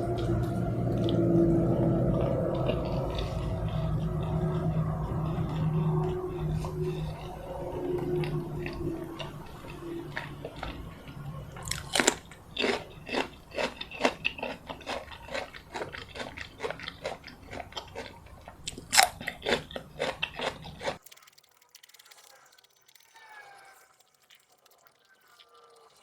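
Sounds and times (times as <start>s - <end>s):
crunchy food chewing: 0.0s - 26.0s
soft mouth sounds: 0.0s - 26.0s.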